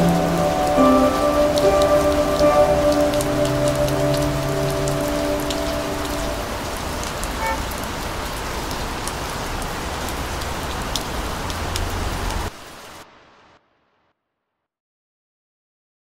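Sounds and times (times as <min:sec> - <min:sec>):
steady rain: 0:00.0 - 0:13.8.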